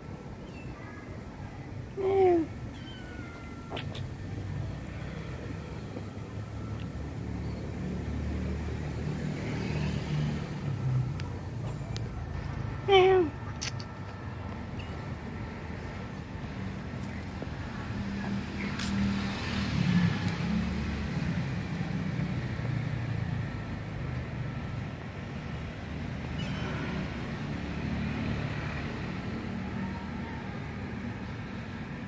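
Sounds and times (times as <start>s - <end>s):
motor vehicle engine passing: 3.7s - 14.2s, 16.6s - 31.8s.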